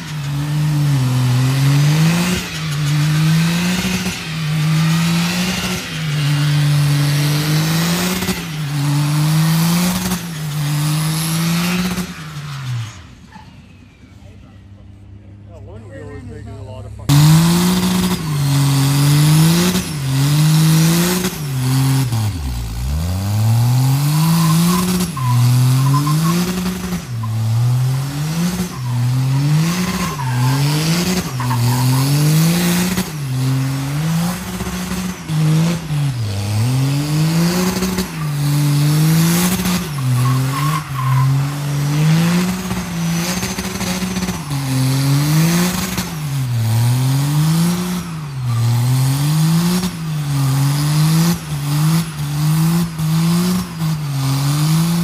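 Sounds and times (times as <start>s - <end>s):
pickup engine revving: 0.0s - 13.5s, 16.9s - 55.0s.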